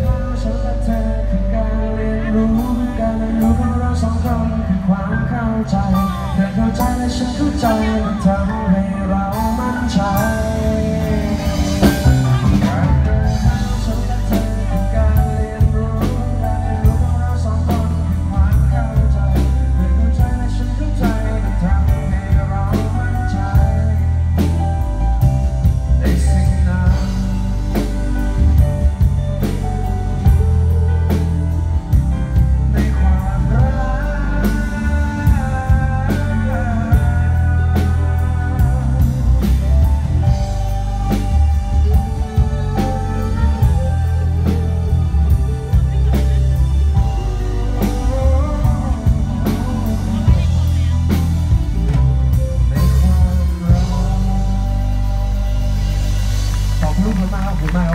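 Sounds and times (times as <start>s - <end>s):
bass guitar: 0.0s - 57.9s
electric guitar: 0.0s - 57.9s
drum kit beat: 5.9s - 57.9s.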